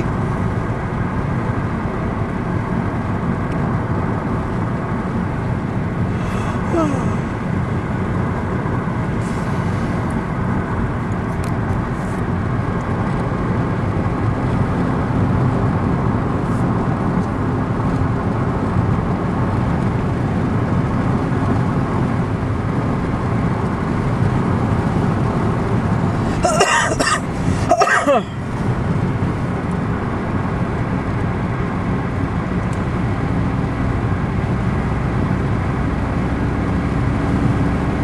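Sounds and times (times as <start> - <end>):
car engine hum: 0.0 - 38.0.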